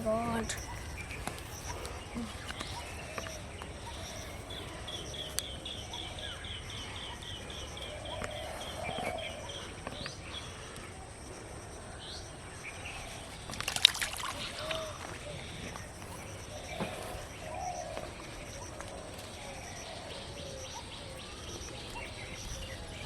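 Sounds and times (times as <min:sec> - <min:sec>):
rural background noise: 0:00.0 - 0:23.0.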